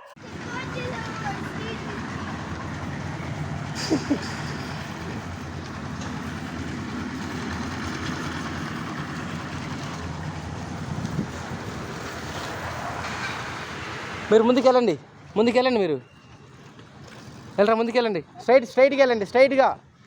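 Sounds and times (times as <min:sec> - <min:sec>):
vehicle engine rumble: 0:00.2 - 0:18.0.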